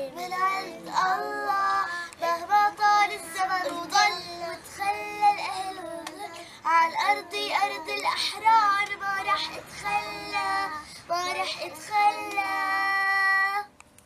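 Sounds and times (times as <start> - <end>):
girls singing together: 0.0 - 13.7.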